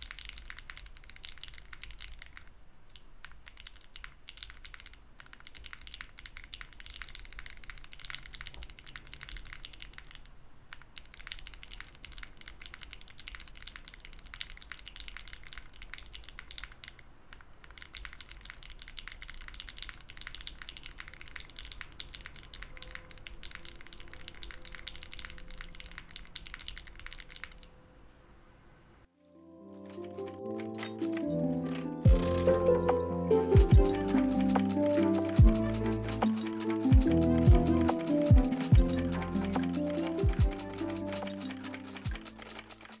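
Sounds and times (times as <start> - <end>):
soft mechanical keyboard typing: 0.0 - 27.9, 29.8 - 43.0.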